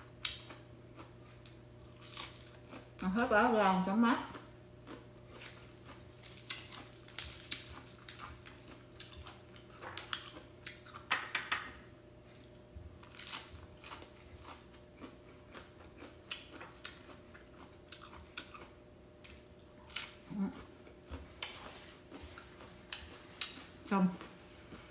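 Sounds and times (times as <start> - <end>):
chewing and crunching: 0.0 - 11.1, 12.3 - 24.9.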